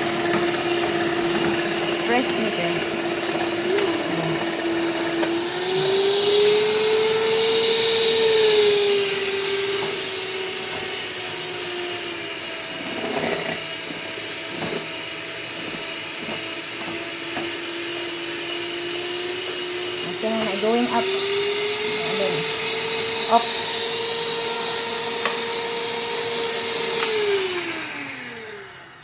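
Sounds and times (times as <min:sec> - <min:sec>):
electric mixer motor whining: 0:00.0 - 0:29.0.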